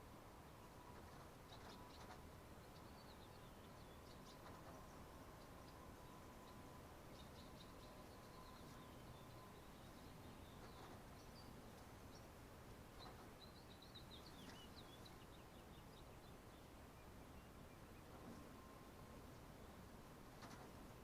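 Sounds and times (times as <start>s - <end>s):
faint bird chirps: 0.4s - 21.0s.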